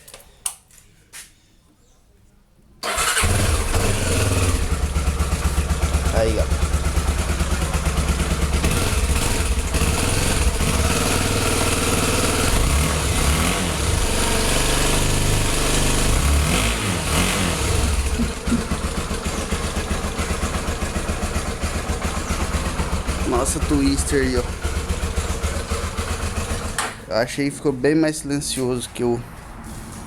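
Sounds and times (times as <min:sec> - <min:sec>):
motorcycle engine idling and revving: 0:02.9 - 0:27.1.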